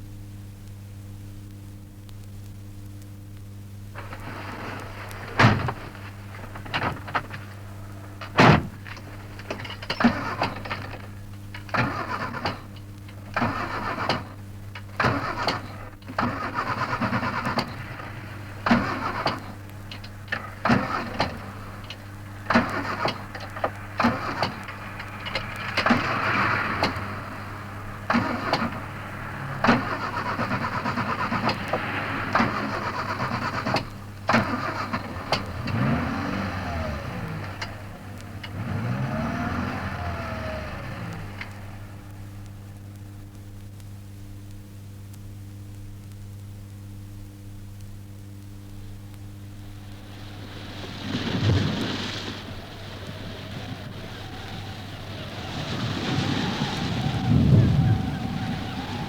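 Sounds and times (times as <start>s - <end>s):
low recording hum: 0.0s - 59.0s
car engine cranking and sputtering: 3.8s - 44.1s, 48.8s - 59.0s.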